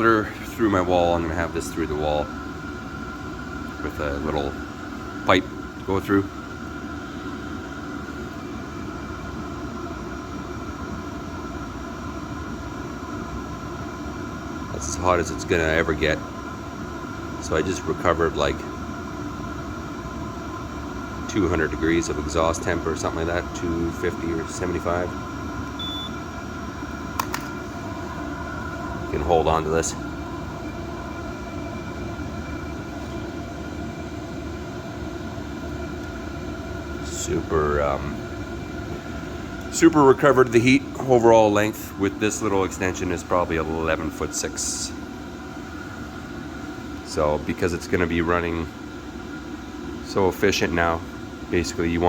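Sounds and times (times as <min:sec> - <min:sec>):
air heater droning with whine: 0:00.0 - 0:52.0.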